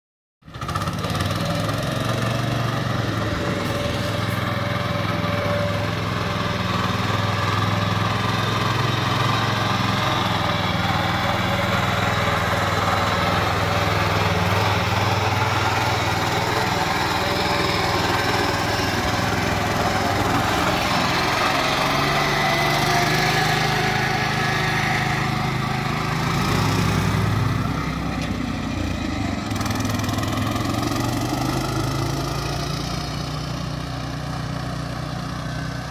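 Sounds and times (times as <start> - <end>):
small engine running: 0.5 - 35.9.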